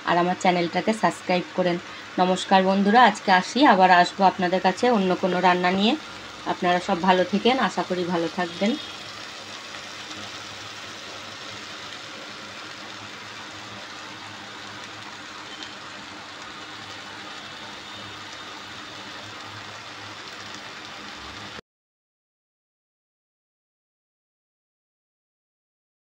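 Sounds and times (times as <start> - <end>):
food sizzling in a pan: 0.0 - 21.6.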